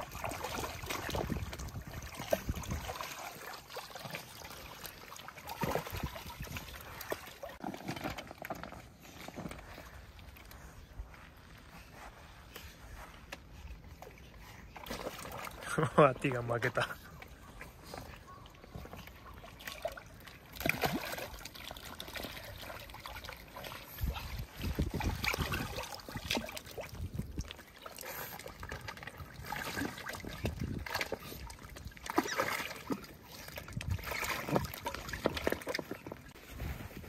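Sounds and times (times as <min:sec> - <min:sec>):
water splashing and sloshing: 0:00.0 - 0:37.0.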